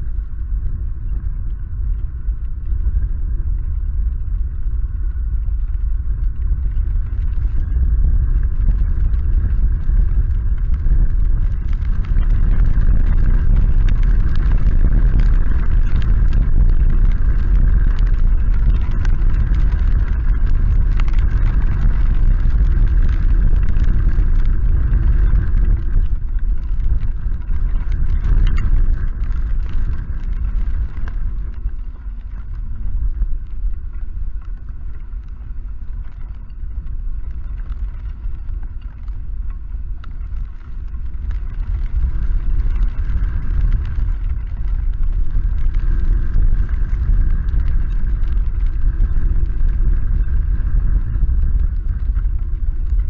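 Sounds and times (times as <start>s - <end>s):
rain pattering: 0.0s - 53.0s
wind blowing across microphone: 0.0s - 53.0s.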